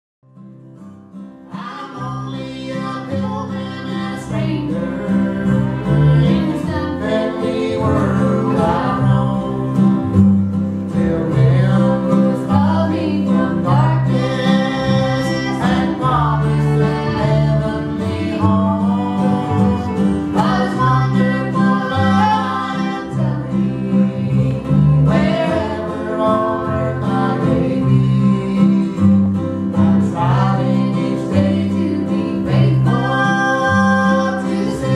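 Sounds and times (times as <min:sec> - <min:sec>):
string band playing: 0:01.1 - 0:34.9
person singing: 0:01.5 - 0:10.2, 0:10.8 - 0:34.9.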